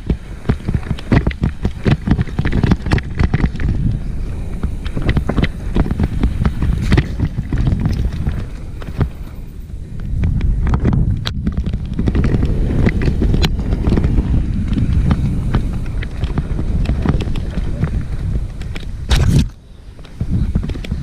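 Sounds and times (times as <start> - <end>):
bike frame rattling on rocks: 0.0 - 21.0
bike jolt: 0.0 - 21.0
wind buffeting microphone: 0.0 - 21.0.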